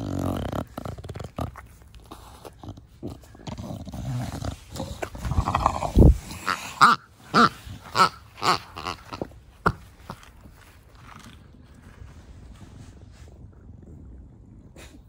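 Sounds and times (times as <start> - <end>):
dog snorting and snuffling: 0.0 - 15.0.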